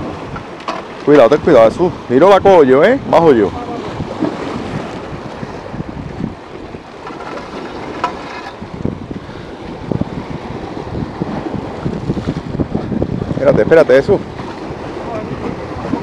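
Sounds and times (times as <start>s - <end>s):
waves washing against rocks: 0.0s - 16.0s
wind on microphone: 0.0s - 16.0s.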